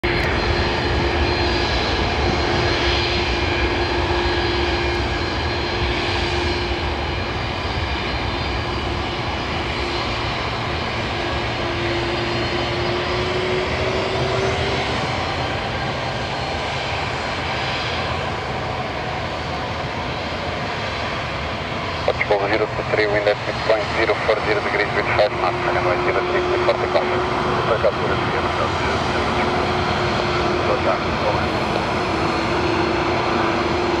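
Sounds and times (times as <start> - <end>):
jet engines at taxi power: 0.0 - 34.0.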